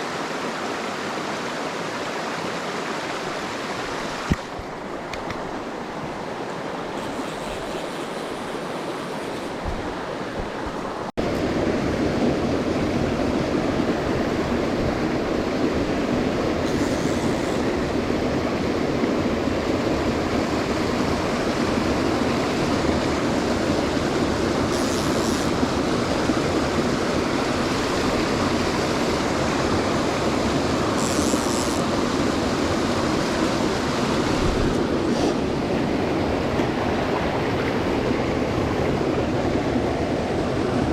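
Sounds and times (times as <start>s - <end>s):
stream water running over rocks: 0.0s - 11.5s, 13.6s - 39.3s.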